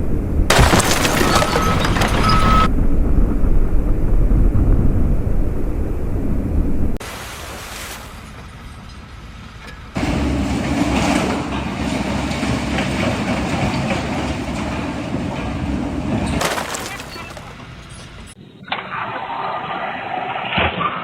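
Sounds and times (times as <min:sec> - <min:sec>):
heavy machinery rumbling: 0:00.0 - 0:07.0, 0:08.2 - 0:19.9.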